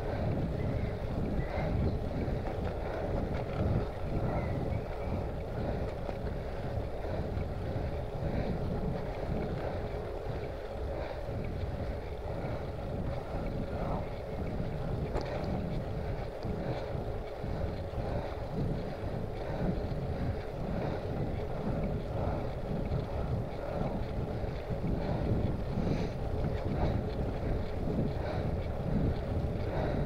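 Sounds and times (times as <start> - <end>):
faint steady hum: 0.0 - 30.0
wind buffeting microphone: 0.0 - 30.0.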